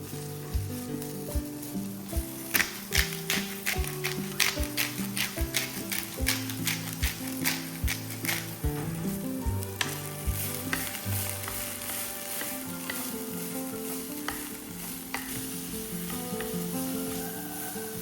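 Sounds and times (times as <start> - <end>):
food sizzling in a pan: 0.0 - 18.0
utensil clicking against pan: 2.1 - 18.0.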